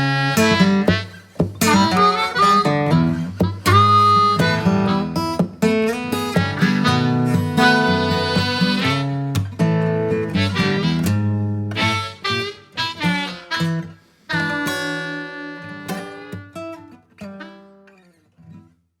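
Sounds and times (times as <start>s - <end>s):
acoustic guitar picking: 0.0s - 18.7s.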